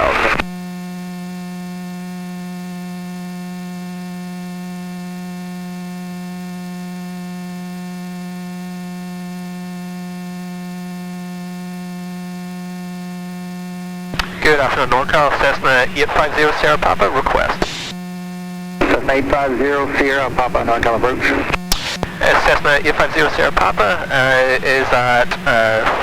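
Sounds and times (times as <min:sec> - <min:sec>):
steady electrical hum: 0:02.6 - 0:26.0.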